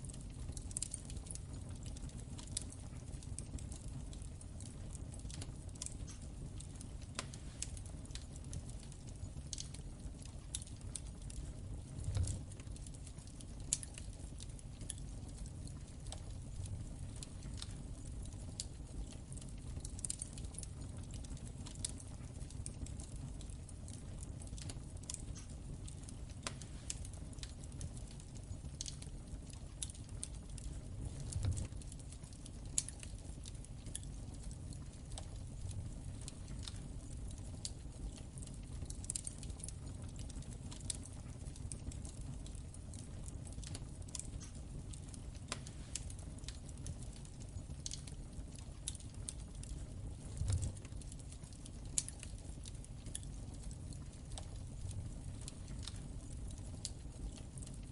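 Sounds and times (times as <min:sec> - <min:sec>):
low rumble of flames: 0:00.0 - 0:57.9
wood fire crackling: 0:00.0 - 0:57.9.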